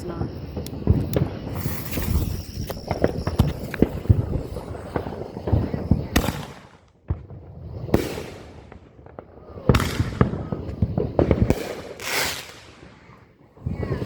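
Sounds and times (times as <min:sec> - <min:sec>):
fireworks bangs: 0:00.0 - 0:14.0
fireworks crackling pops: 0:00.0 - 0:14.0
fireworks hiss: 0:00.0 - 0:14.0.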